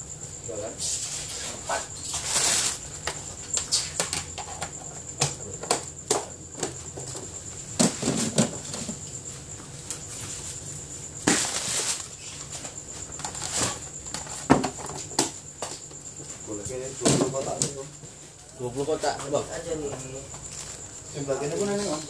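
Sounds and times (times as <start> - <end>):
freezer hum: 0.0 - 22.0.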